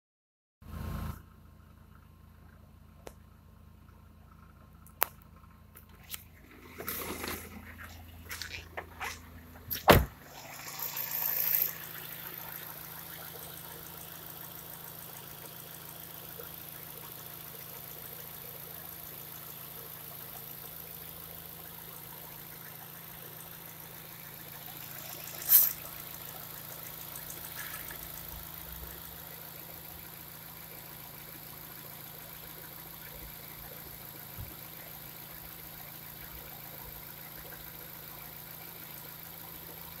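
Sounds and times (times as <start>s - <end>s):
car engine idling: 0.7s - 40.0s.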